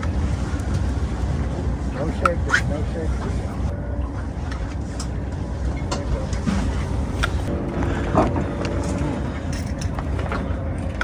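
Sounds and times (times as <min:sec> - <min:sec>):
low steady hum: 0:00.0 - 0:11.0
wind and water rumble: 0:00.0 - 0:11.0.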